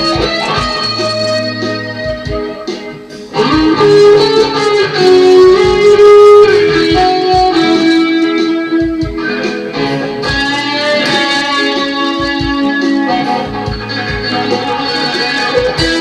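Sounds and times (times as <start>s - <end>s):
electric guitar notes: 0.0s - 16.0s.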